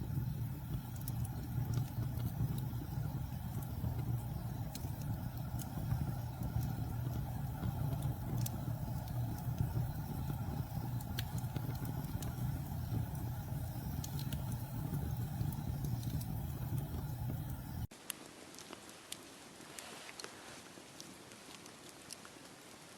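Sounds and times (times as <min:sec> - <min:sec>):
campfire low rumble: 0:00.0 - 0:18.7
fire crackles and pops: 0:00.0 - 0:22.9.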